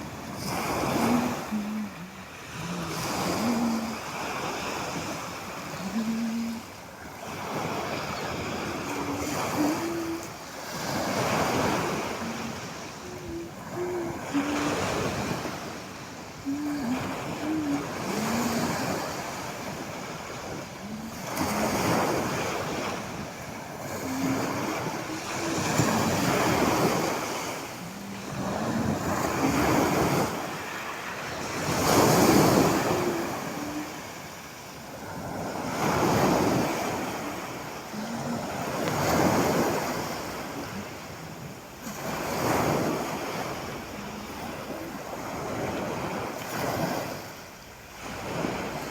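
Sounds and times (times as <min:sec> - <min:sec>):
wind on microphone: 0:00.0 - 0:47.3
sea waves washing onto shore: 0:00.0 - 0:48.9.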